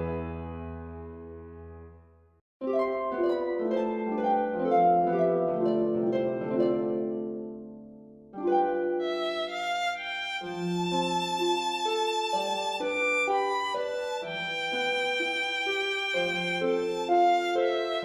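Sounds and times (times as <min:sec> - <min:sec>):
plucked string melody: 0:02.6 - 0:18.0.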